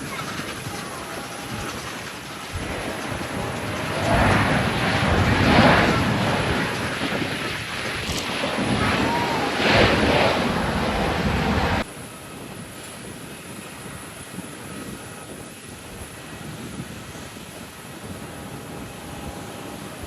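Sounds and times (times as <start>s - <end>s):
distant aircraft noise: 0.0s - 20.0s
jet engine noise: 0.0s - 20.0s
wind rumbling on microphone: 0.0s - 20.0s.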